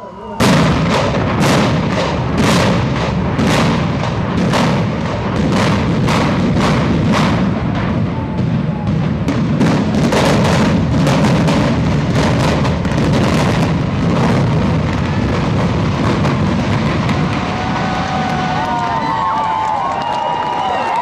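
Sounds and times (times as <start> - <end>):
demolition charges booming: 0.3 - 20.6
building collapsing rumble: 0.4 - 20.6.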